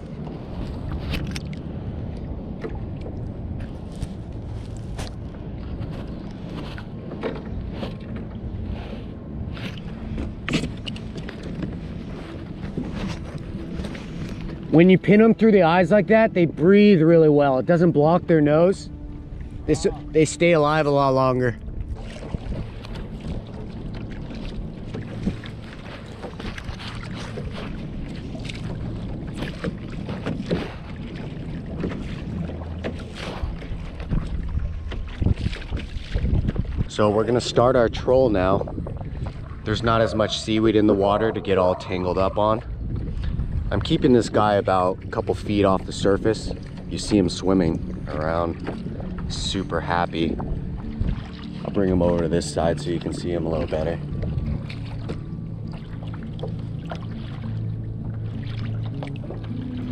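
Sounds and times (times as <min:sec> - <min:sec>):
splashes: 0:00.0 - 0:59.9
water lapping at kayak hull: 0:00.0 - 0:59.9
wind rumble on microphone: 0:00.0 - 0:59.9.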